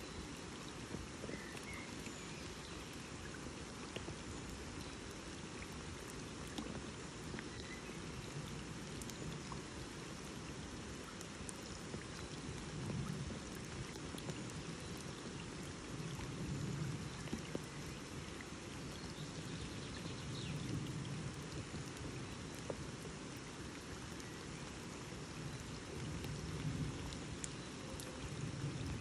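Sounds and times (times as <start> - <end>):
rain on lake surface: 0.0 - 29.0.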